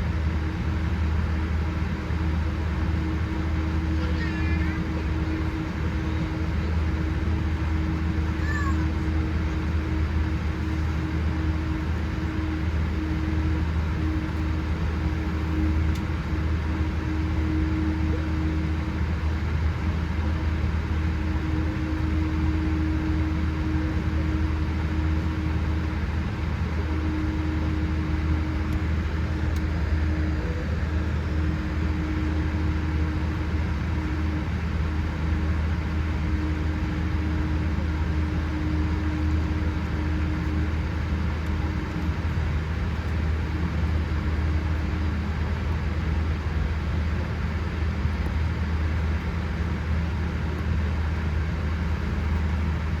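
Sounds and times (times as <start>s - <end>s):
airplane cabin hum: 0.0s - 53.0s.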